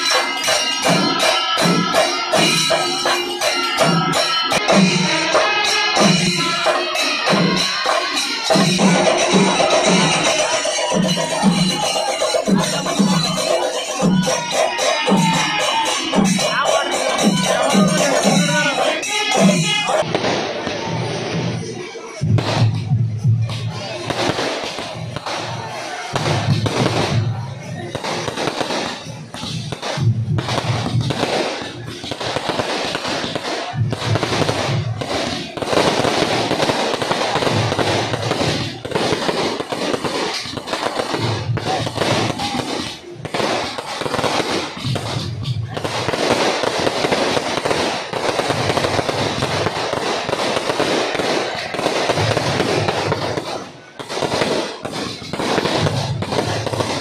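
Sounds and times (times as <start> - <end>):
fireworks bangs crackling: 0.0 - 57.0.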